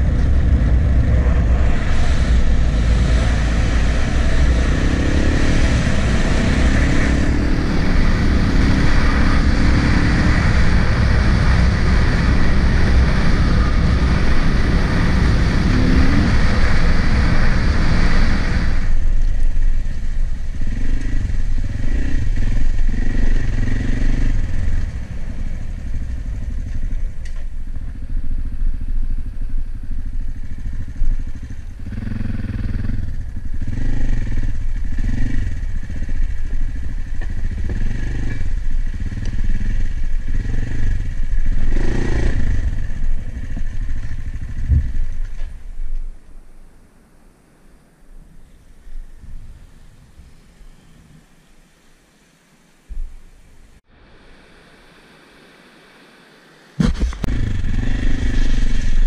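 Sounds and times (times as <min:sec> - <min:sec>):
motorcycle engine running: 0:00.0 - 0:46.0, 0:56.8 - 0:59.0
steady rushing noise: 0:00.0 - 0:50.2.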